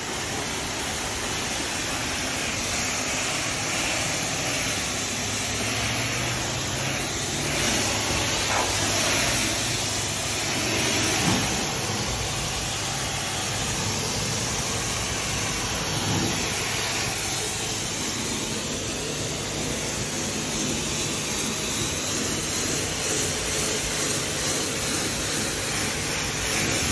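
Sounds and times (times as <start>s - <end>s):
pressure washer spray hissing: 0.0s - 26.9s.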